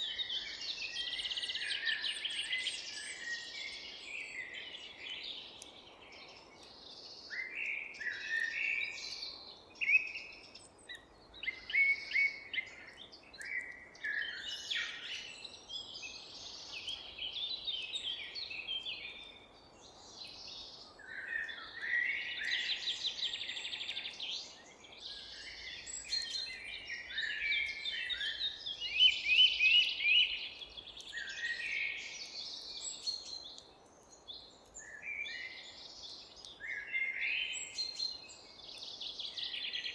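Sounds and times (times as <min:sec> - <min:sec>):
wild birds chirping and singing: 0:00.0 - 0:39.9.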